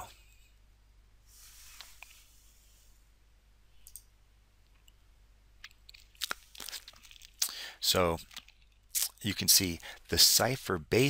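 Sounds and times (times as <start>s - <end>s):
soft high hiss: 0.0s - 11.0s.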